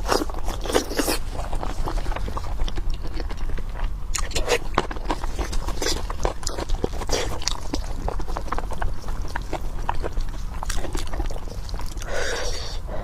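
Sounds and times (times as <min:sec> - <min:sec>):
wet chewing and mouth clicks: 0:00.0 - 0:12.8
steady low hum: 0:00.0 - 0:13.0.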